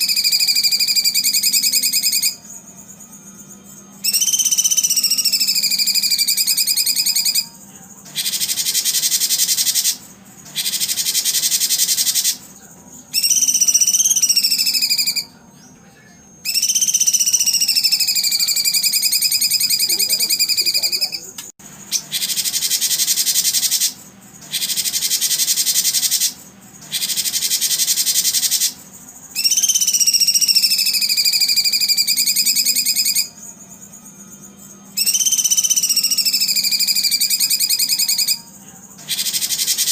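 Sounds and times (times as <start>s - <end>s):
songbird whistled phrases: 0.0s - 2.4s, 4.0s - 12.5s, 13.1s - 15.8s, 16.4s - 21.3s, 21.9s - 28.8s, 29.4s - 33.4s, 34.9s - 39.9s
harsh buzzing bird trills: 0.0s - 39.9s.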